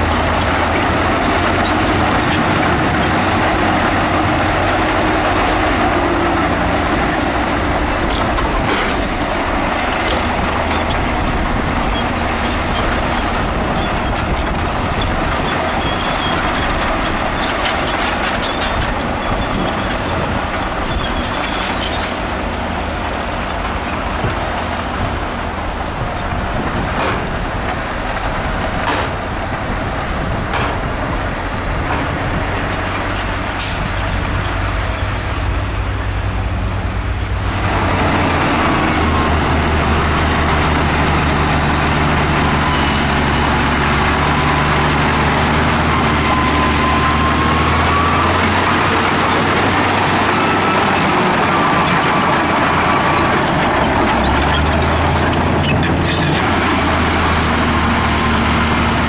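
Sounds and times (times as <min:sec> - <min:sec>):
diesel machinery running: 0:00.0 - 0:59.0.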